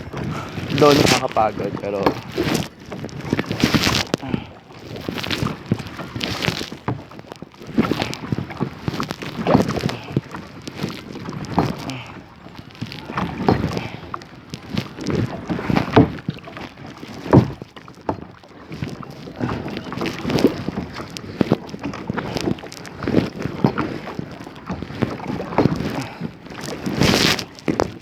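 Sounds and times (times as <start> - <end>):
kayak paddle splashing: 0.0 - 28.0.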